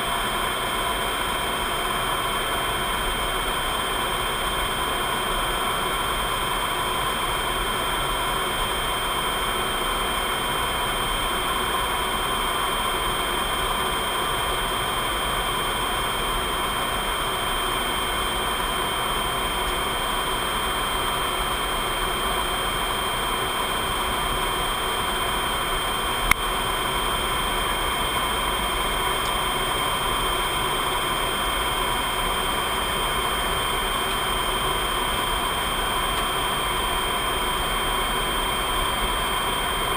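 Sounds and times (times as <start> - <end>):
high-pitched whines: 0.0 - 39.9
jet cockpit engine and airflow rush: 0.0 - 39.9.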